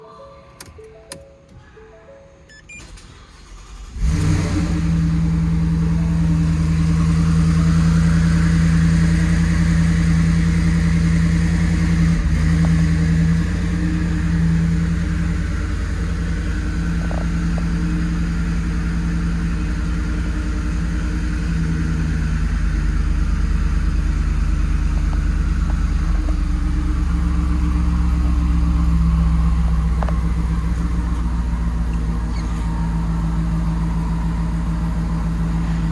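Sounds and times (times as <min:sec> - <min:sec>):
truck engine starting: 0:02.6 - 0:35.9
truck engine idling: 0:02.7 - 0:35.9.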